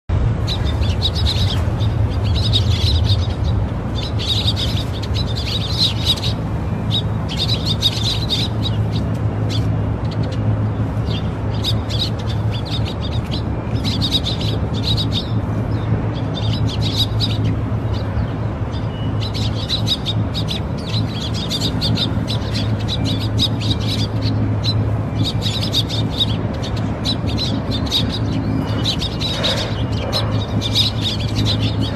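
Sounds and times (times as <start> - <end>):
steady low hum: 0.1 - 31.9
small birds chirping: 0.3 - 31.9.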